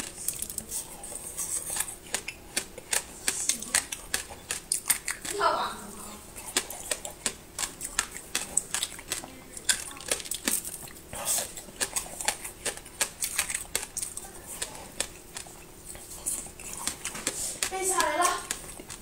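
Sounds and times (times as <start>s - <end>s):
chewing and mouth sounds: 0.0s - 19.0s.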